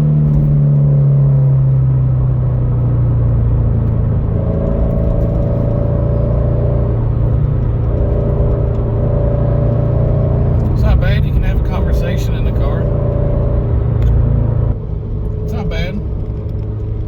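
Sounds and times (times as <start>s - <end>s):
car engine rumble while driving: 0.0s - 17.0s.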